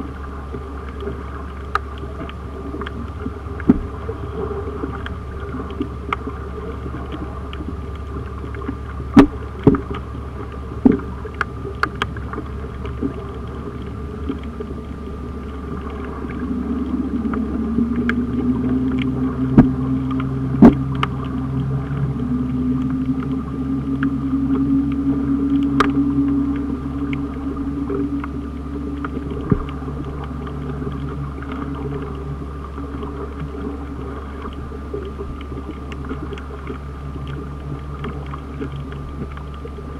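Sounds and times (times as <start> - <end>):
engine drone through water: 0.0 - 39.9
low underwater hum: 0.0 - 39.9.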